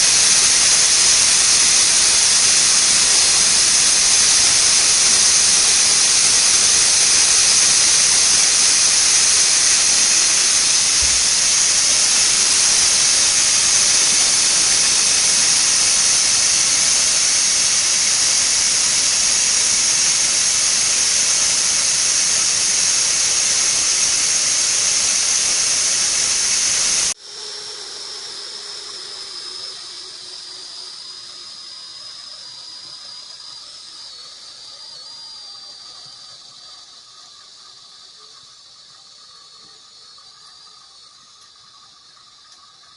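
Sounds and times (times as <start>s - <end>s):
thin high whistle: 0.0s - 42.6s
pressure cooker whistle hissing: 0.0s - 42.9s.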